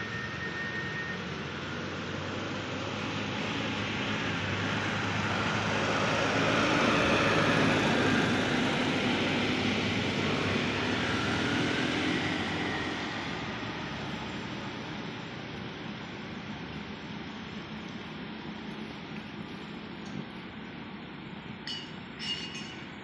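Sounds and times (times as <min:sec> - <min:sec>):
diesel truck driving past: 0:00.0 - 0:21.4.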